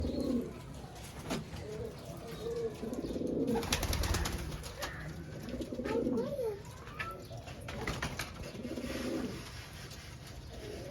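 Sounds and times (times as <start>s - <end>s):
pigeons cooing: 0.0s - 0.8s, 1.6s - 10.9s.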